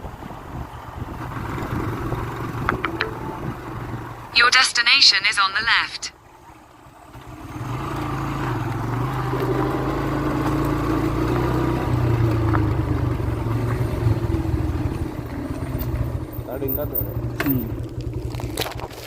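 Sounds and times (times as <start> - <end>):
vehicle engine humming: 0.0 - 4.4, 6.2 - 19.0.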